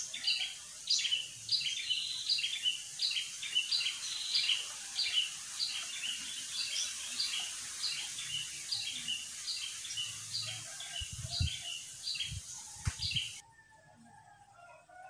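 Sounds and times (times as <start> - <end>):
steady outdoor hiss: 0.0 - 13.4.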